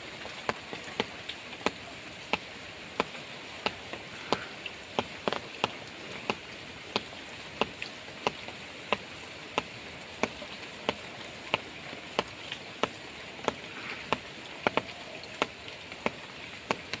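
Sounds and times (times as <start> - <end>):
water hissing: 0.0 - 17.0
sharp ticks: 0.5 - 17.0.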